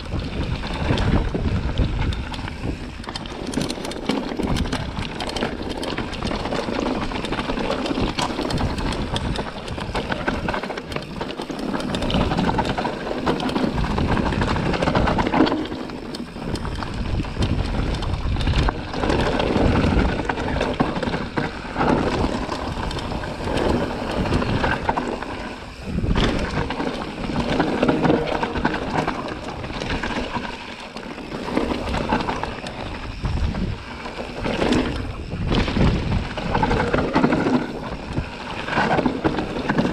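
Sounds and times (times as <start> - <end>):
wind on microphone: 0.0 - 30.6, 31.3 - 39.9
bike rattling over bumps: 0.0 - 39.9
bike tyres rolling over dirt: 0.0 - 39.9.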